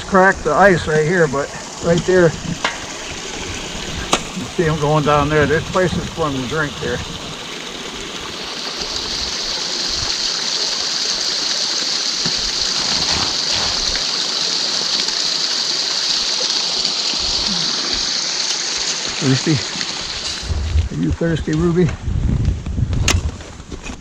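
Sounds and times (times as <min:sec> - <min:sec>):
stream water rushing: 0:00.0 - 0:20.6.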